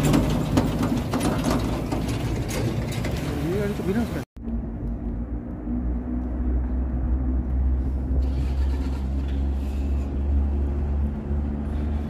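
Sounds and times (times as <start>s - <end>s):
vehicle driving through tunnel: 0.0s - 12.0s.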